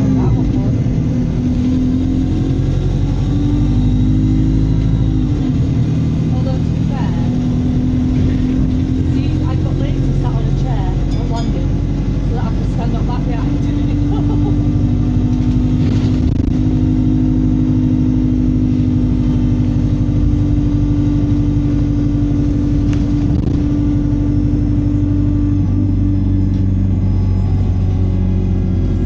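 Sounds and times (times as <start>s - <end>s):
bus engine drone: 0.0s - 29.0s.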